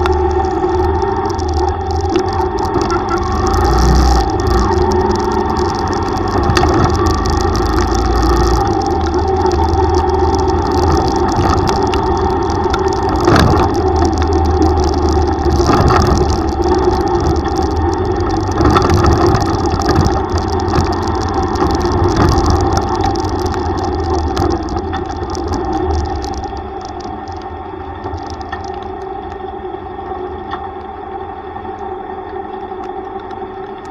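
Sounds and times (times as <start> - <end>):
tricycle engine running: 0.0 - 29.2
steady rushing noise: 0.0 - 33.9.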